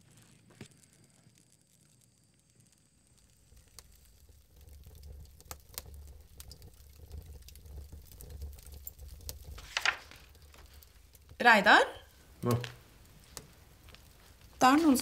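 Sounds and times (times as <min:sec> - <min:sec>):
kindling crackling and popping: 0:00.0 - 0:15.0
low fire rumble: 0:00.0 - 0:15.0.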